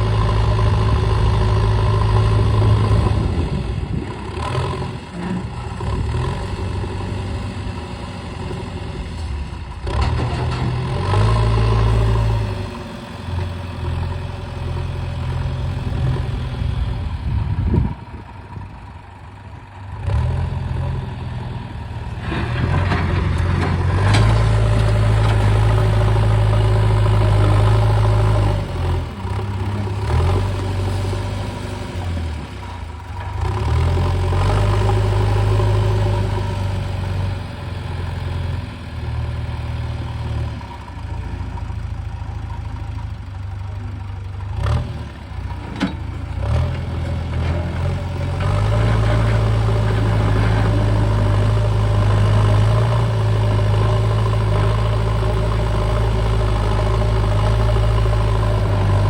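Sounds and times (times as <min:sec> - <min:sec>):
excavator diesel engine working: 0:00.0 - 0:59.0.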